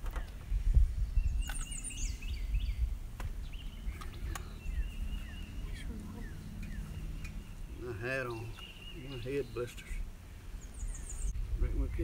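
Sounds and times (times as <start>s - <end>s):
songbirds calling: 0.0s - 12.0s.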